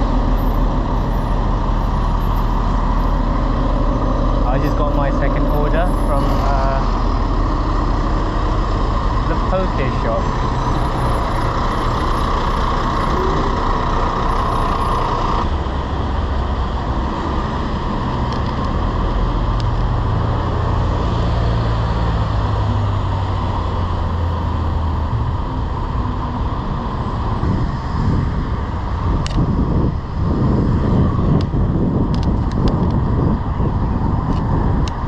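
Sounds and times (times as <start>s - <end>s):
busy road traffic: 0.0s - 35.0s
large vehicle engine rumbling: 0.0s - 35.0s.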